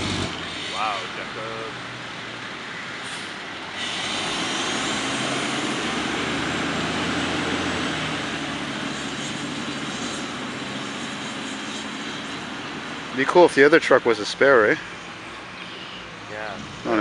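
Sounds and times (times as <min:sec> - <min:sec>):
fire engine diesel engine: 0:00.0 - 0:17.0
tyres on road: 0:00.0 - 0:17.0.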